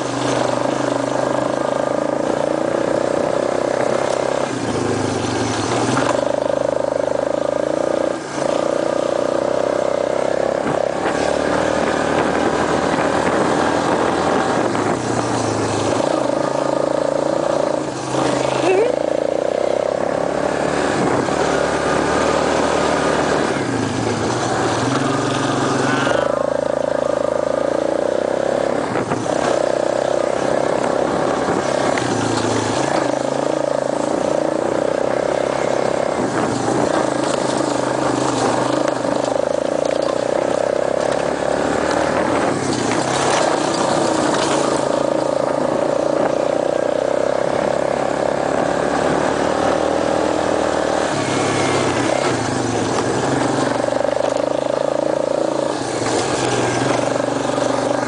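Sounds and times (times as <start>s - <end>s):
small off-road engine running: 0.0s - 58.0s.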